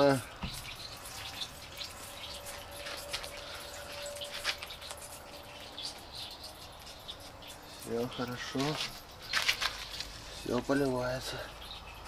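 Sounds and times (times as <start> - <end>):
water dripping: 0.0 - 12.0.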